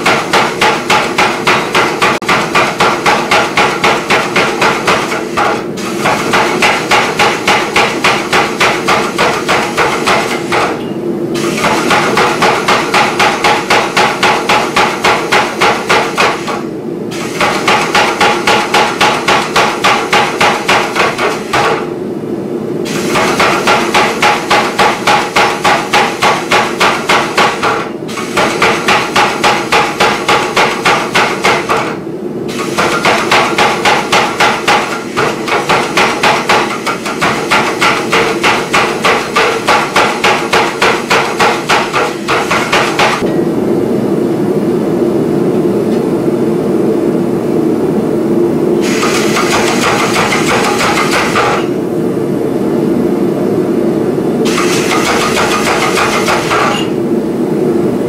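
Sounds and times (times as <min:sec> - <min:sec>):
power hammer striking hot steel: 0:00.0 - 0:21.9, 0:22.8 - 0:43.5, 0:48.8 - 0:51.8, 0:54.4 - 0:57.0
steady hum: 0:00.0 - 0:58.0.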